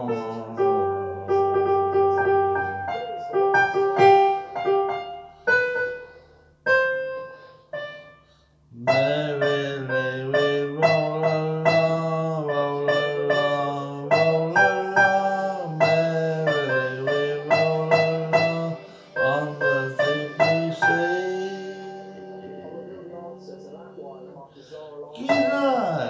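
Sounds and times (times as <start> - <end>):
keyboard instrument playing chords: 0.0 - 24.4.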